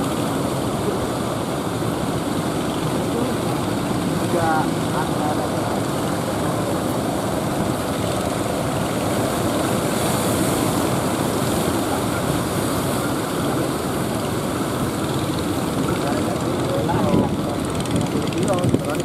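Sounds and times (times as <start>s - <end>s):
boat engines droning: 0.0s - 19.0s
surf breaking: 0.0s - 19.0s.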